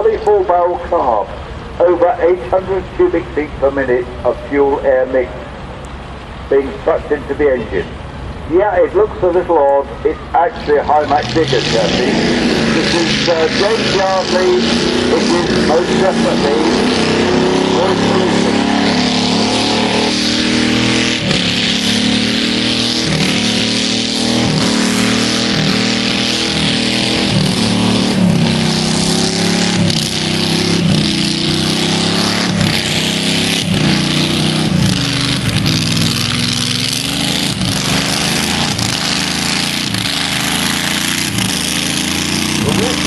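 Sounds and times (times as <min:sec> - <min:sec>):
loud engine under power: 0:00.0 - 0:43.0.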